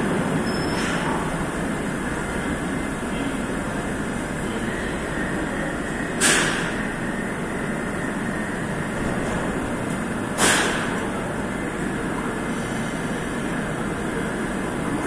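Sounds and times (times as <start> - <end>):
train and station hum: 0.0 - 15.0.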